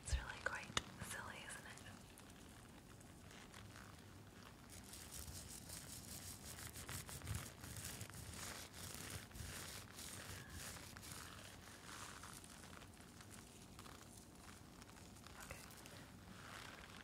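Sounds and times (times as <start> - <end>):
scratching of a studded face mask: 0.1 - 17.0.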